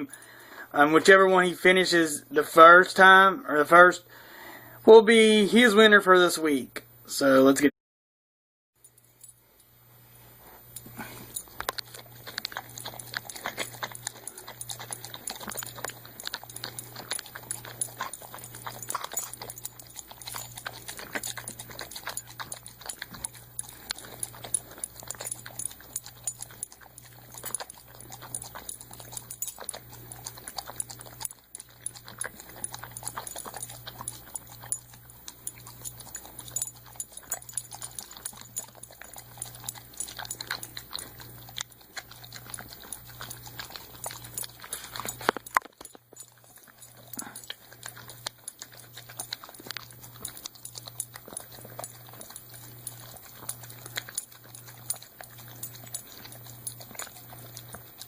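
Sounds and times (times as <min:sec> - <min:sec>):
dog licking food from cans: 0:10.8 - 0:58.0
tongue scraping against cans: 0:10.8 - 0:58.0.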